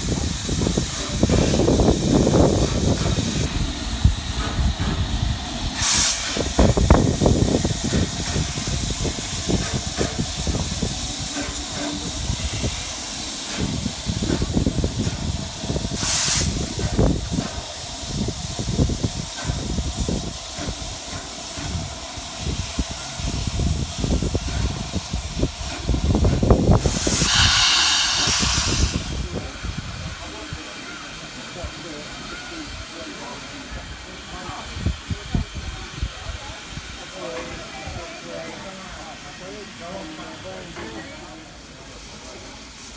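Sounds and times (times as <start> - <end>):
steam bursts escaping: 0.0 - 42.9
steam hissing: 0.0 - 42.9.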